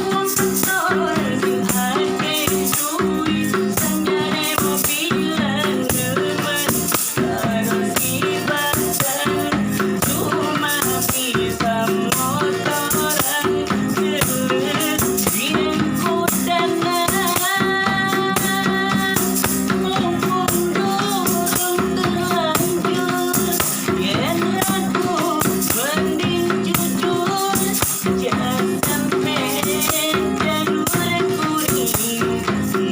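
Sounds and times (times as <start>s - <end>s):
person singing: 0.0s - 32.9s
shaker rattle: 0.0s - 32.9s
strummed guitar: 0.0s - 32.9s.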